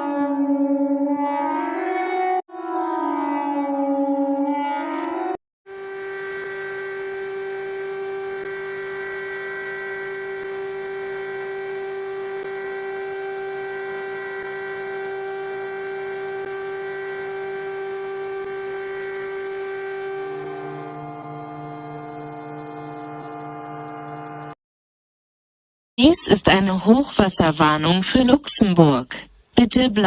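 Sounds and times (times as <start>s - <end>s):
steady alarm tone: 0.0s - 24.6s.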